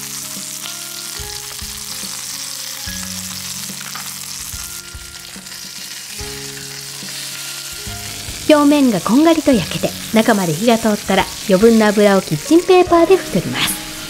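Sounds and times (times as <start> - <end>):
chicken sizzling in frying pan: 0.0 - 14.0
soft background music: 0.0 - 14.0.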